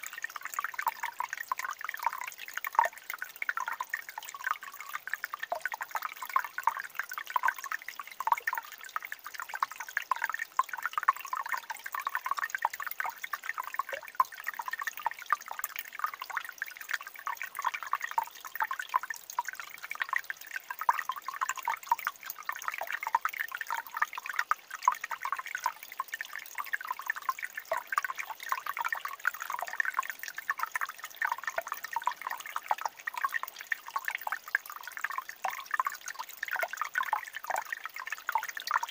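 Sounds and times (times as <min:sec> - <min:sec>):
stream trickling and gurgling: 0:00.0 - 0:38.9.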